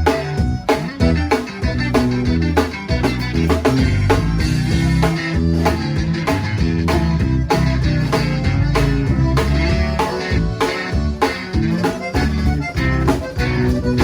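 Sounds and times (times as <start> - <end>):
bass: 0.0 - 14.0
plucked guitar: 0.0 - 14.0
steady drum beat: 0.0 - 14.0.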